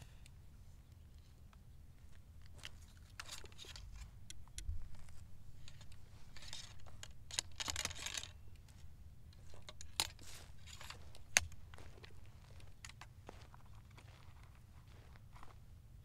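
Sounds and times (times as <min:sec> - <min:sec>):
rustling and scraping: 0:02.0 - 0:15.6.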